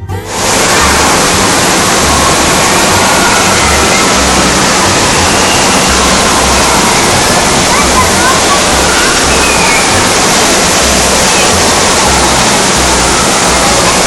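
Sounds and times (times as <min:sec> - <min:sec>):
falling water rushing: 0:00.2 - 0:14.0.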